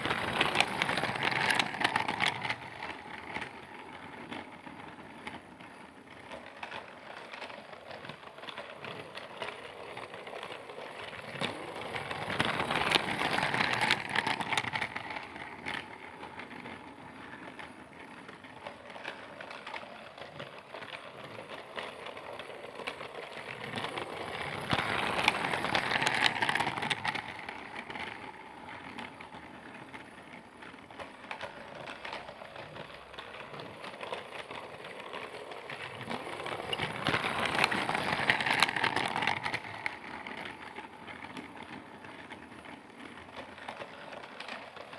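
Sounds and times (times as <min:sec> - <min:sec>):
toy train motor whir: 0:00.0 - 0:44.9
toy train wheels rattling: 0:00.0 - 0:44.9.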